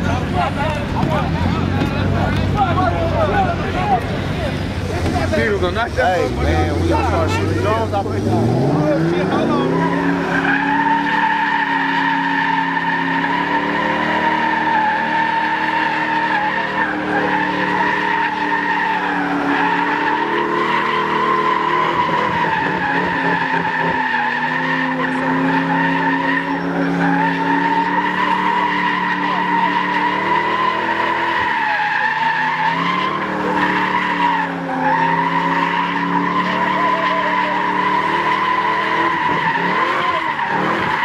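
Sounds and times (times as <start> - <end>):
car engine at high revs: 0.0 - 41.0
tyres squealing: 0.0 - 41.0.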